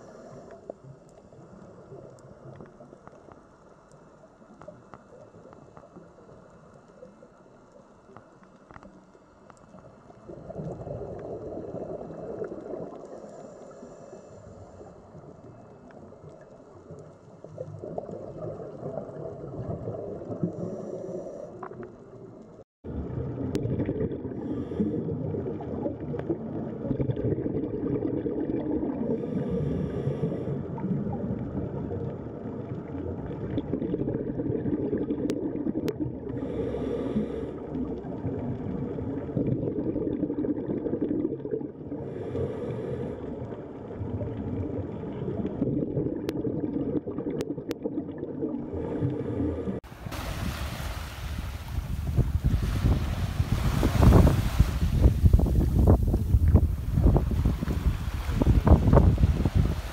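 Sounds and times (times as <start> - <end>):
underwater bubbles rushing: 9.6 - 59.9.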